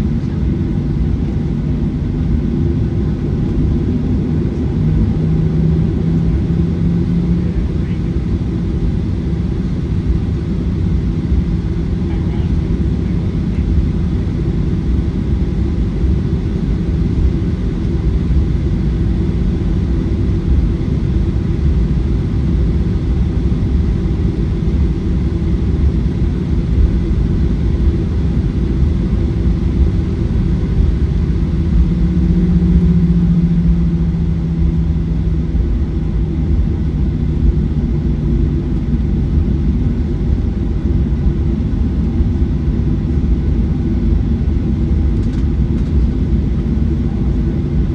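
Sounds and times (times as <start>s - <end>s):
jet engines rumbling in cabin: 0.0s - 47.9s.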